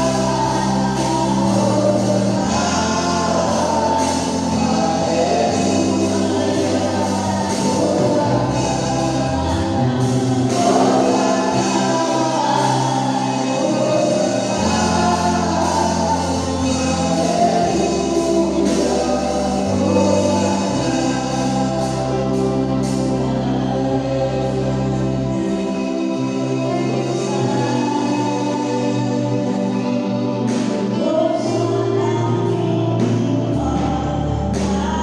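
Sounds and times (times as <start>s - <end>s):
choir singing gospel: 0.0s - 35.0s
low held accompaniment notes: 0.0s - 35.0s.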